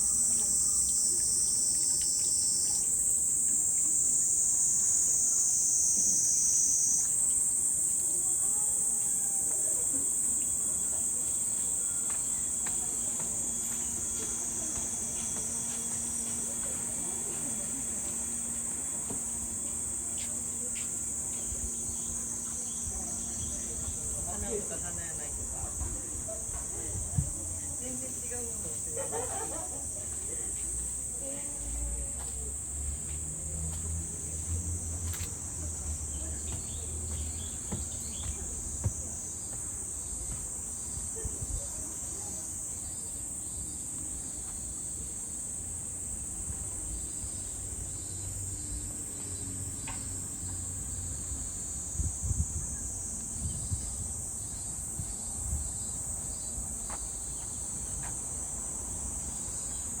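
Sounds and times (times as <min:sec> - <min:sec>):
insects droning: 0:00.0 - 1:00.0
pulsing insect call: 0:00.0 - 1:00.0.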